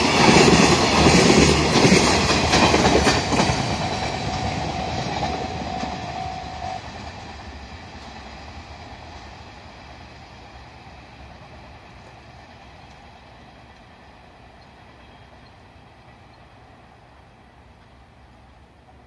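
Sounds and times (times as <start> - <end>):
freight train running on rails: 0.0 - 19.0.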